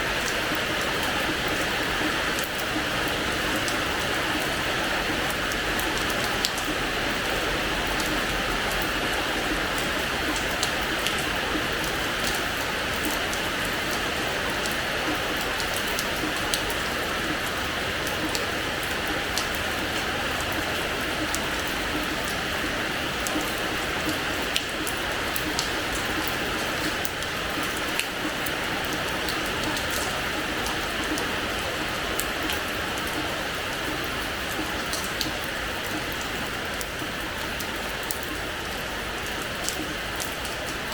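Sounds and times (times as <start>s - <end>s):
rain on hard floor: 0.0s - 40.9s.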